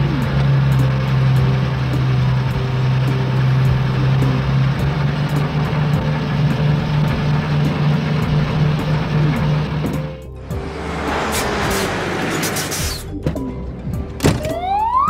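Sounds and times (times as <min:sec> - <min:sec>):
garbage truck engine humming: 0:00.0 - 0:15.0
light background music: 0:00.0 - 0:15.0.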